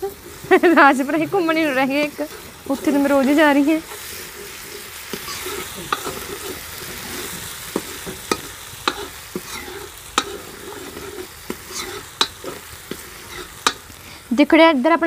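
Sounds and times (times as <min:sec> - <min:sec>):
metal spatula scraping pan: 0:00.0 - 0:14.0
onions sizzling in hot oil: 0:00.0 - 0:15.0.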